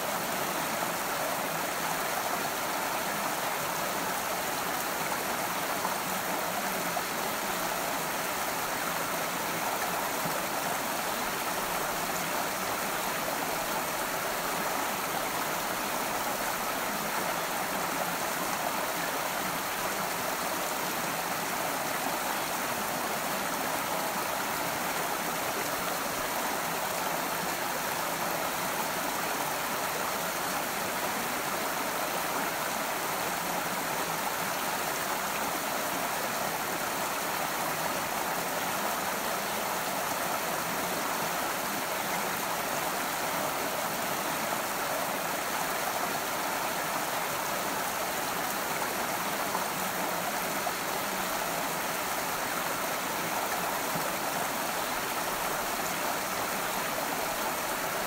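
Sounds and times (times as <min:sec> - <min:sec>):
creek water babbling over stones: 0:00.0 - 0:58.0.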